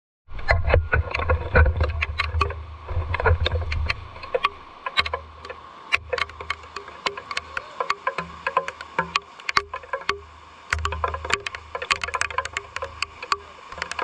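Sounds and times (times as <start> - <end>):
raindrops on hard surface: 0.6 - 14.0.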